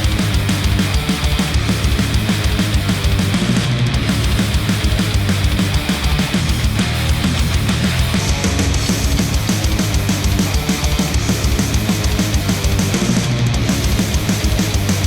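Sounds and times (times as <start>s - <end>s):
heavy rock music with fast drums: 0.0s - 15.0s.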